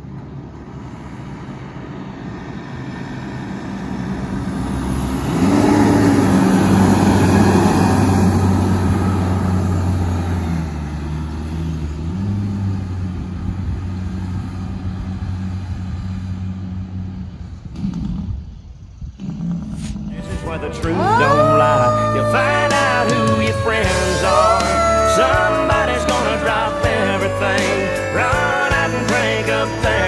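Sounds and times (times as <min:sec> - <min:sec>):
fire engine diesel engine passing: 0:00.1 - 0:17.6, 0:19.8 - 0:30.0.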